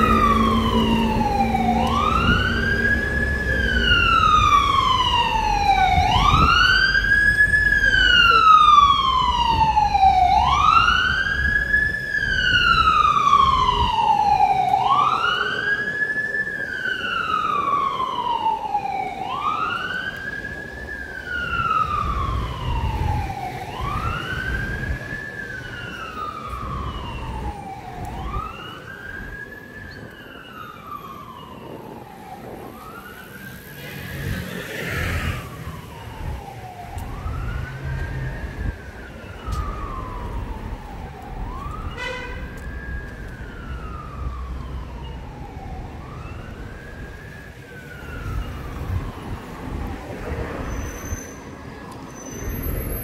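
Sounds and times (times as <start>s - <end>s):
emergency siren wailing: 0.0s - 53.0s
street traffic rumble: 0.0s - 53.0s.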